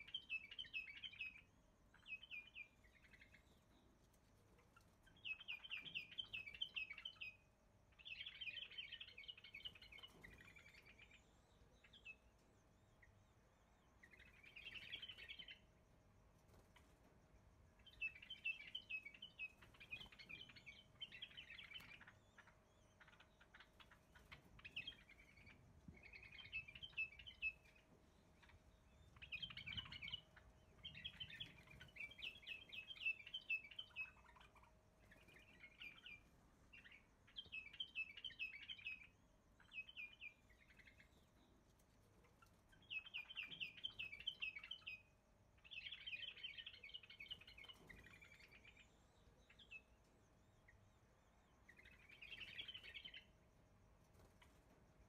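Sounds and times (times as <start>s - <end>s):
small birds chattering: 0.0s - 55.0s.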